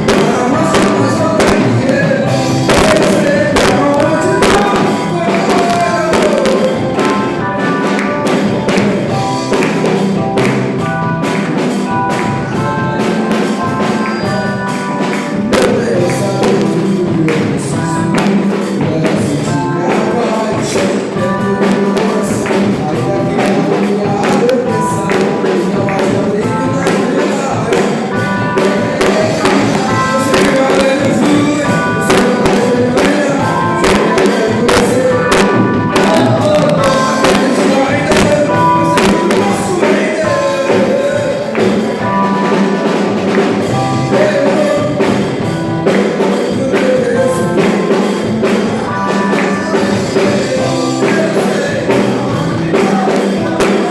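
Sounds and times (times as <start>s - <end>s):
gospel singing over a beat: 0.0s - 53.9s.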